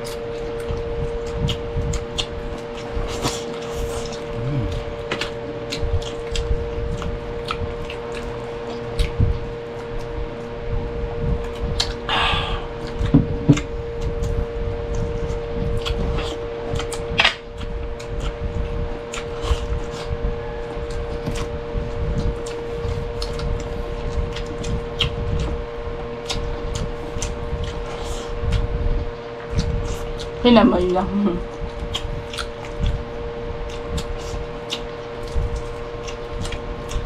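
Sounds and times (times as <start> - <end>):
chewing and mouth clicks: 0.0 - 30.4, 31.1 - 37.0
fan humming: 0.0 - 37.0.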